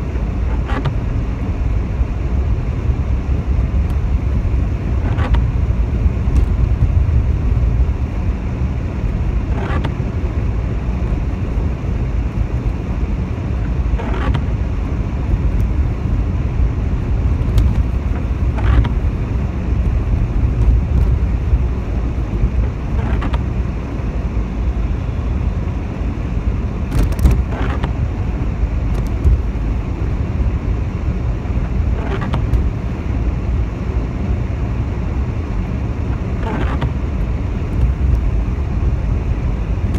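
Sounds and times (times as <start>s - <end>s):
car engine and tyres on wet road: 0.0s - 39.9s
windscreen wipers sweeping: 0.0s - 39.9s.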